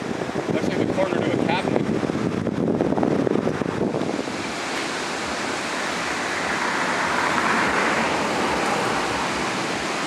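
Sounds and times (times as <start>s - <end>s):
traffic rushing on bridge: 0.0s - 10.0s
water falling over weir: 0.0s - 10.0s.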